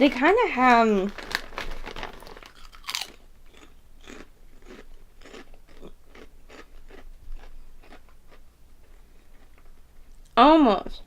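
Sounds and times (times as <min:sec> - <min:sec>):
chewing crunchy snacks: 0:01.1 - 0:10.4.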